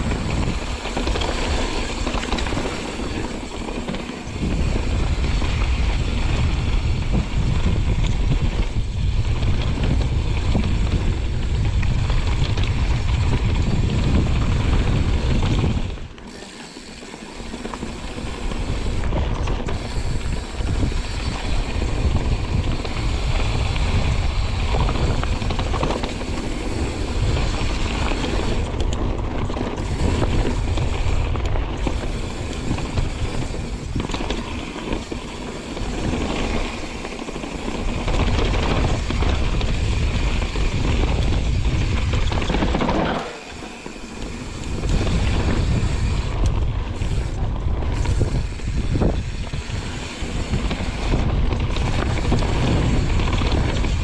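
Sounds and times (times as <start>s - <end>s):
bicycle freewheel ratcheting: 0.0s - 54.0s
tyres rumbling over gravel: 0.0s - 54.0s
wind buffeting microphone: 0.0s - 54.0s.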